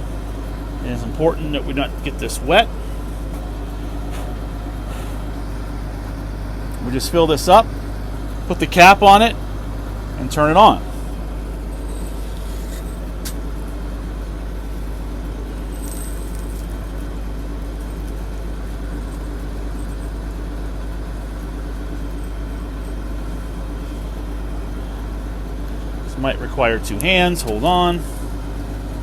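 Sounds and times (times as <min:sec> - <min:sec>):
combine harvester running: 0:00.0 - 0:29.0.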